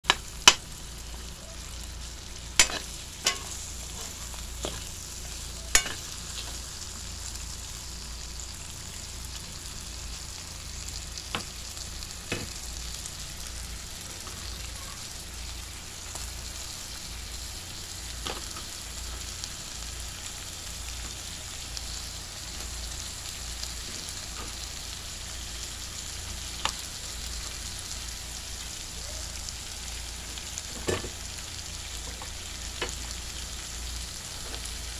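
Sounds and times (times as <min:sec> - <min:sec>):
meat sizzling in wok: 0:00.0 - 0:34.9.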